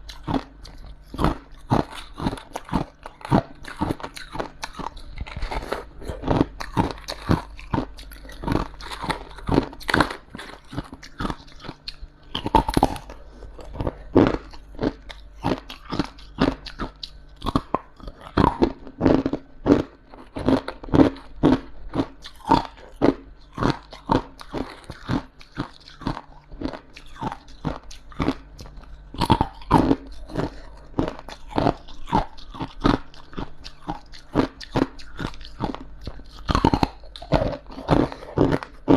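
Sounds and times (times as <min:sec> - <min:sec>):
faint low hum: 0:00.0 - 0:38.9
frost crunching in mouth: 0:00.0 - 0:38.9.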